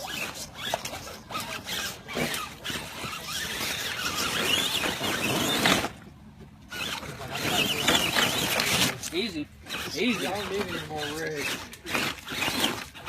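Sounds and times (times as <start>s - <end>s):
toy car electric motor whirring: 0.0s - 6.0s, 6.7s - 13.0s.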